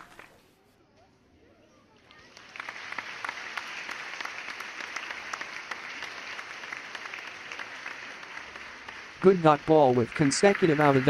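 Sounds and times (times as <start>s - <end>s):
crowd applause: 2.1s - 11.0s.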